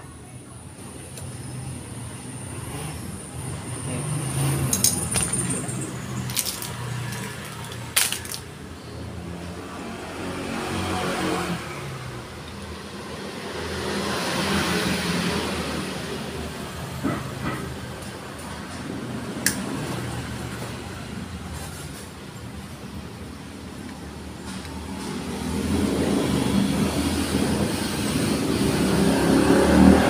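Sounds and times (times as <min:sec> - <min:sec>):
motor traffic hum: 0:00.0 - 0:30.0.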